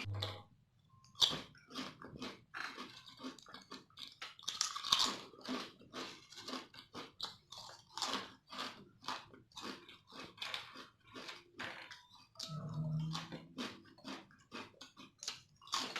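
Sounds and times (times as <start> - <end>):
potato chips crunching: 1.2 - 15.9.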